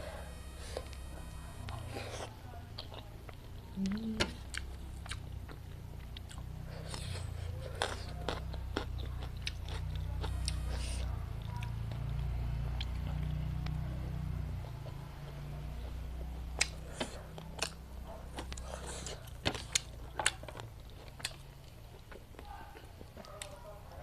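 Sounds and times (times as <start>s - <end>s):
steady low hum: 0.0s - 23.2s
chewing and biting: 0.4s - 24.0s.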